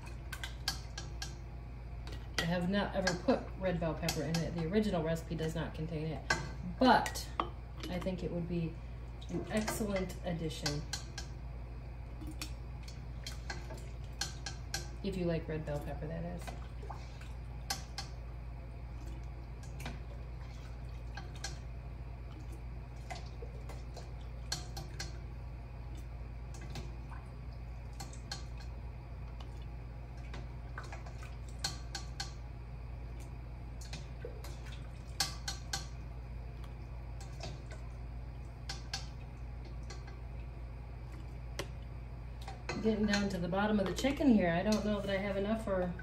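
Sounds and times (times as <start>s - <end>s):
light clicks and drips: 0.0s - 11.4s, 12.0s - 46.0s
steady low hum: 0.0s - 46.0s.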